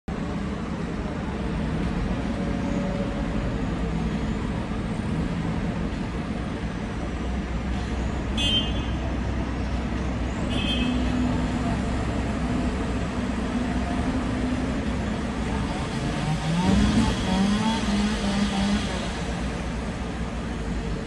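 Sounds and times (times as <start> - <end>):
idling engines and street traffic: 0.1 - 21.0.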